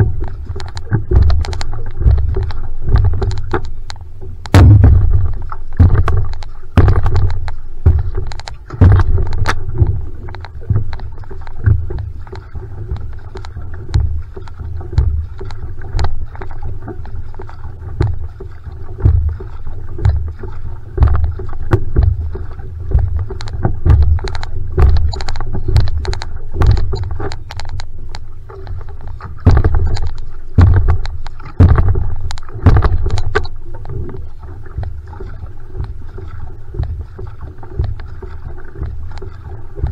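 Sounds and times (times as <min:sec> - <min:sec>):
paddle splashing: 0:00.0 - 0:39.9
water rushing along hull: 0:00.0 - 0:39.9.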